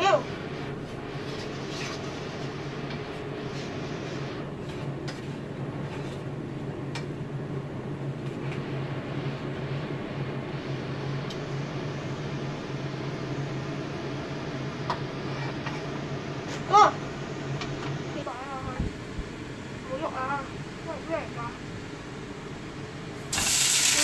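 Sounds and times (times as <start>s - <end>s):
low mechanical fan hum: 0.0s - 24.0s.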